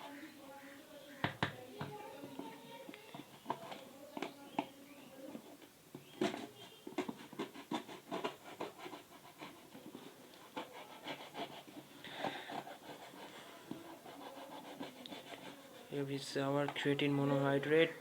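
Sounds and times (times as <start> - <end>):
scraping rasp: 2.4 - 16.9.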